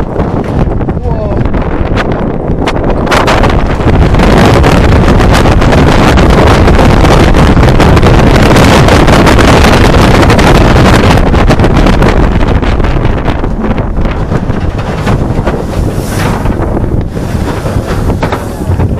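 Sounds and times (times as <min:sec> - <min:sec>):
roller coaster rumbling on track: 0:00.0 - 0:18.9
wind buffeting microphone: 0:00.0 - 0:18.9.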